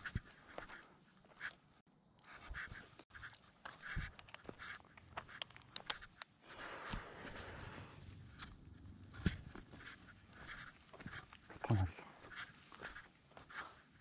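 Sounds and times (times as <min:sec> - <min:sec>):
footsteps on gritty stone path: 0:00.0 - 0:01.6, 0:02.8 - 0:07.7, 0:08.4 - 0:13.8.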